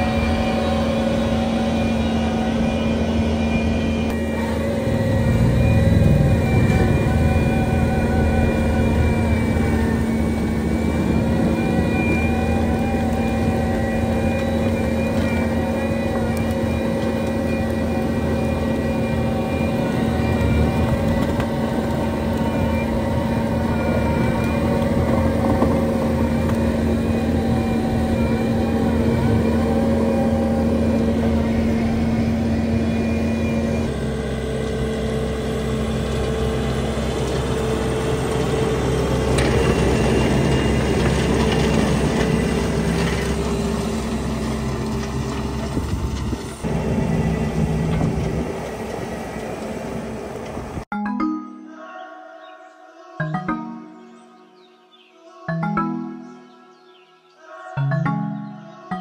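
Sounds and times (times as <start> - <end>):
hydraulic whine: 0.0 - 50.9
loader engine at high revs: 0.0 - 50.9.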